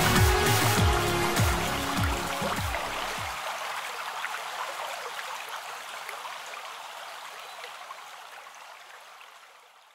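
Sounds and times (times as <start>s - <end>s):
water rushing: 0.0s - 9.8s.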